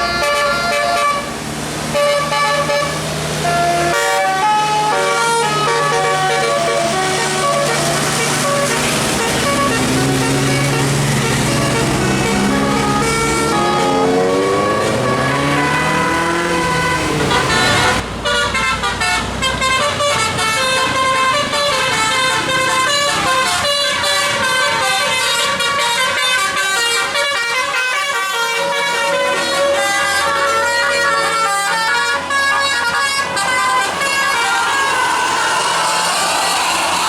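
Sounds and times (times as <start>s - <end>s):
musical air horn playing: 0.0s - 36.7s.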